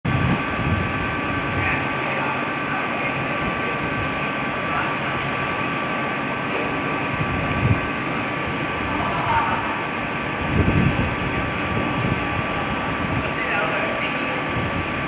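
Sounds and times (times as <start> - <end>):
thin steady whine: 0.0 - 15.0
train diesel engine drone: 0.0 - 15.0.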